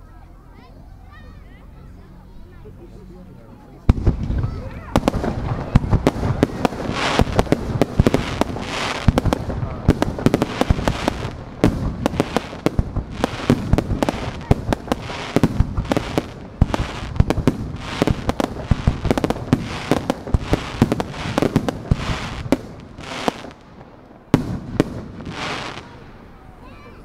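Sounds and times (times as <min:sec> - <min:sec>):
fireworks barrage bursts: 0:03.9 - 0:27.0
fireworks crackling hiss: 0:03.9 - 0:27.0.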